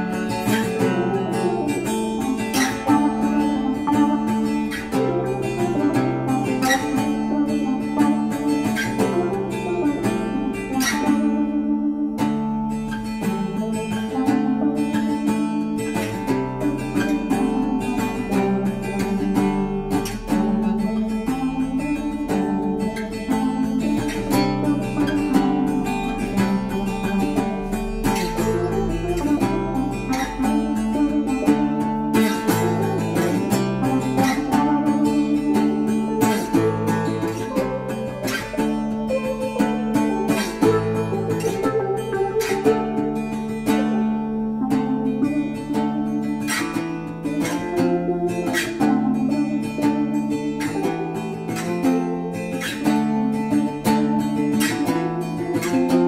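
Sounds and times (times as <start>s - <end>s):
acoustic guitar strummed chords: 0.0s - 56.0s.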